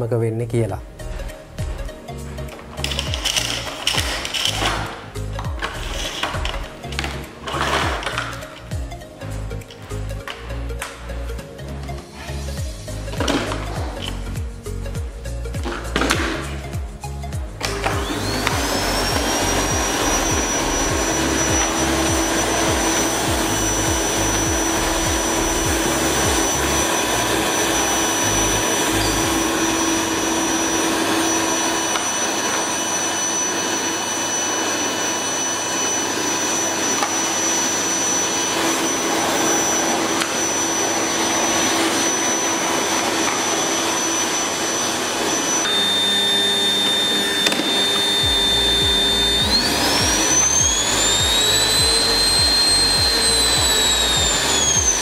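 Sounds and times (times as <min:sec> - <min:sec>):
vacuum cleaner running: 0:01.0 - 0:55.0.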